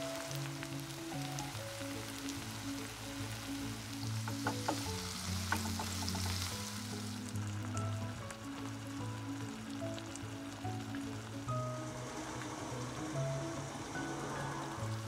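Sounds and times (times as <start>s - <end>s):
background music: 0.0s - 15.0s
vegetables sizzling in oil: 0.0s - 15.0s.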